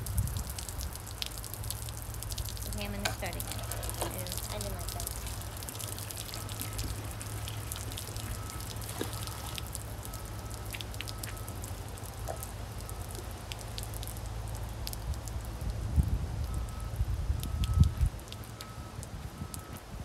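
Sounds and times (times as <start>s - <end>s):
water dripping: 0.0s - 19.7s.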